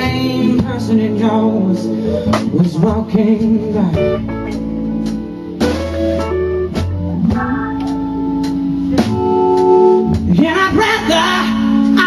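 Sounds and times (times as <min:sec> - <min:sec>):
guitar playing: 0:00.0 - 0:12.0
person singing blues: 0:00.0 - 0:12.0.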